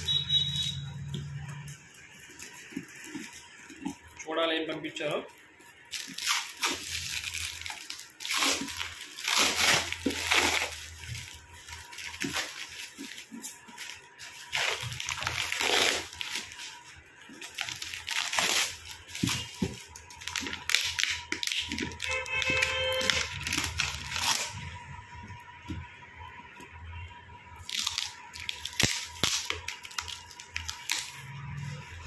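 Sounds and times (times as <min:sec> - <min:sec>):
plastic wrap crinkling and tearing: 0:00.0 - 0:24.8, 0:27.6 - 0:32.0.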